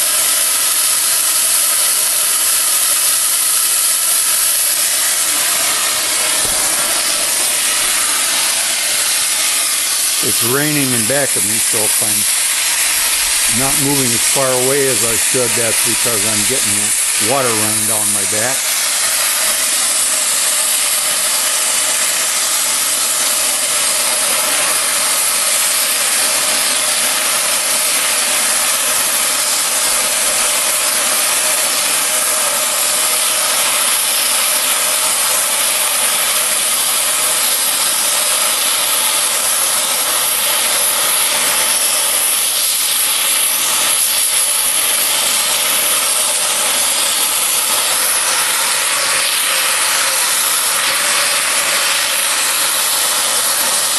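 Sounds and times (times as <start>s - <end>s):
cutting torch hissing: 0.0s - 53.9s.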